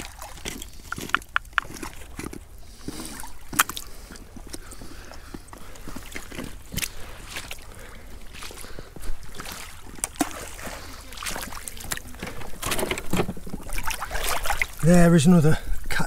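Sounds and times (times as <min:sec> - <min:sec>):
seawater sloshing among rocks: 0:00.0 - 0:16.0.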